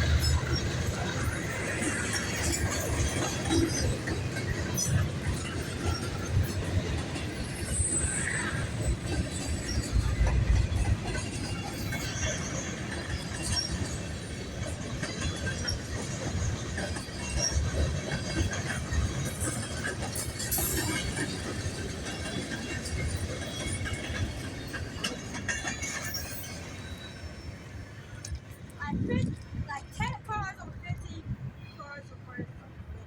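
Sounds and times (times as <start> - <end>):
steel wheels rumbling on rails: 0.0 - 33.0.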